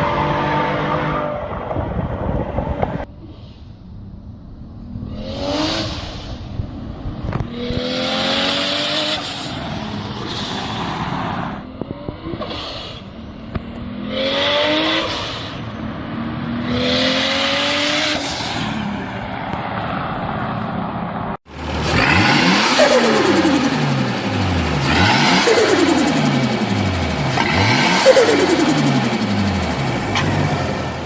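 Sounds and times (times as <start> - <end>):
car engine accelerating hard: 4.8 - 20.7, 21.5 - 31.0.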